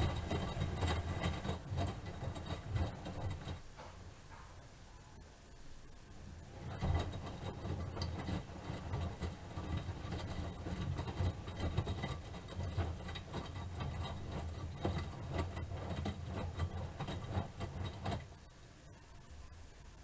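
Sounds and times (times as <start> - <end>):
washing machine drum rumbling: 0.0 - 4.5, 6.3 - 18.5.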